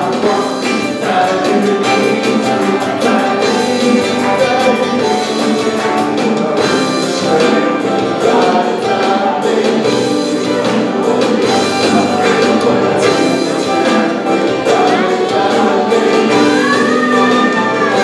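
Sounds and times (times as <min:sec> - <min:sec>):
drum kit: 0:00.0 - 0:18.0
guitar: 0:00.0 - 0:18.0
man singing into microphone: 0:00.0 - 0:18.0.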